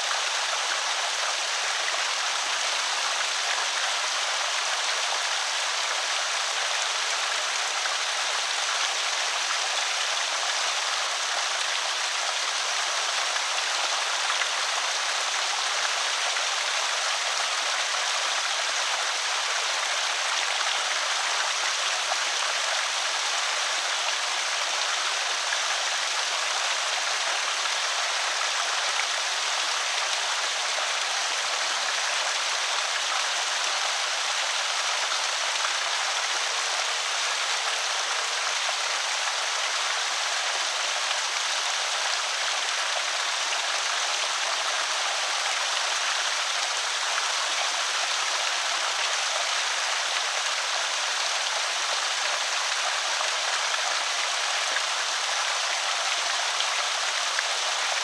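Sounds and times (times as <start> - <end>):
water rushing over spillway: 0.0 - 58.0.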